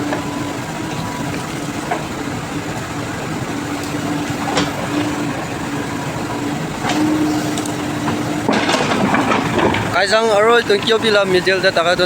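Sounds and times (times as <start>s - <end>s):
diesel machinery engine droning: 0.0s - 12.0s.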